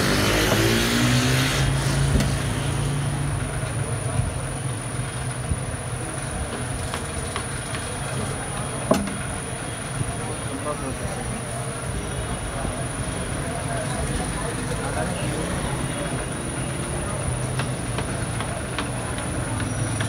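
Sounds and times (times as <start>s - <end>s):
low hum of motor or traffic: 0.0s - 20.0s.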